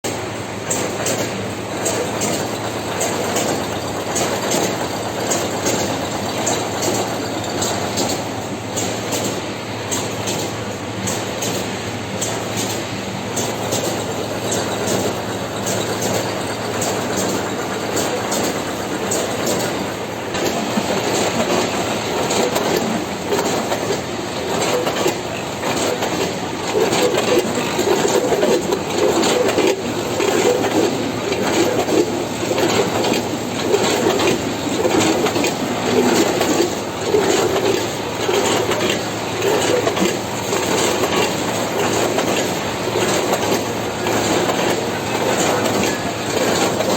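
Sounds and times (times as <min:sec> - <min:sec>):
packaging machine clattering: 0:00.7 - 0:10.5, 0:13.4 - 0:46.9.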